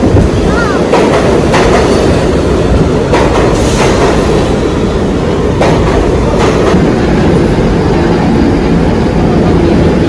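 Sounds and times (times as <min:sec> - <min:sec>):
steel wheels rumbling on rails: 0:00.0 - 0:10.0.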